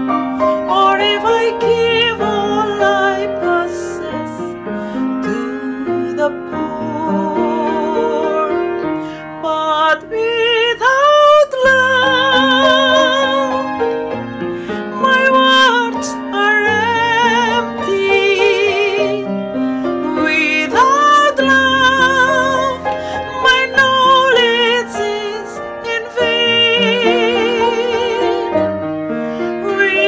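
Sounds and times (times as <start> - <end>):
piano chords: 0.0 - 30.0
woman singing with vibrato: 0.6 - 13.8, 14.8 - 19.4, 20.0 - 28.7, 29.4 - 30.0.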